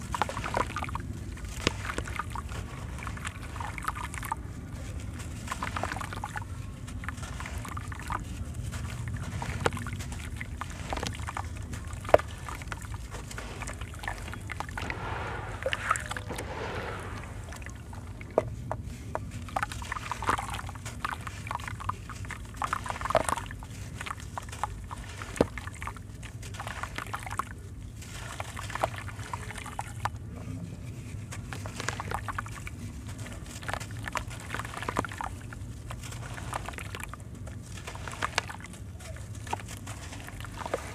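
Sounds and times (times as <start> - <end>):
wet sand-cement crumbling in hands: 0.0 - 30.2, 31.2 - 40.9
water sloshing in a tub: 0.0 - 30.3, 30.9 - 40.9.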